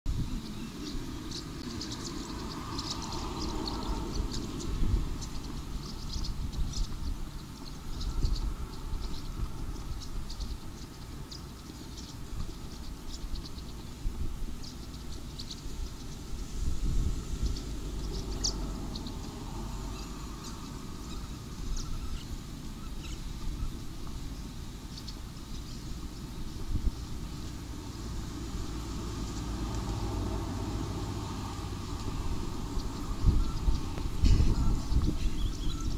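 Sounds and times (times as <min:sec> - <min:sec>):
small birds chirping: 0:00.1 - 0:35.9
steady low rumble: 0:00.1 - 0:35.9.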